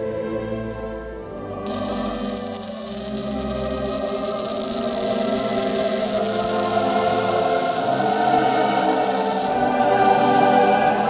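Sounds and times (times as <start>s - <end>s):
choir holding long notes: 0.0s - 11.0s.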